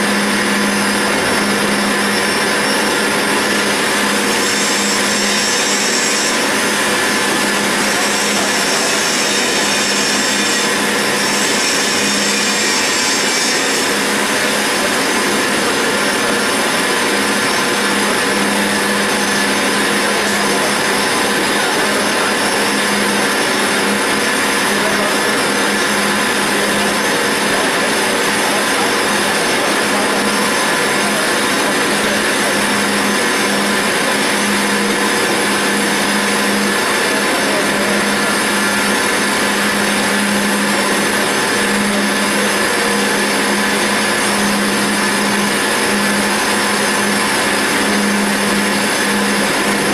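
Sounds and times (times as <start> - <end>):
lathe cutting steel: 0.0 - 49.9.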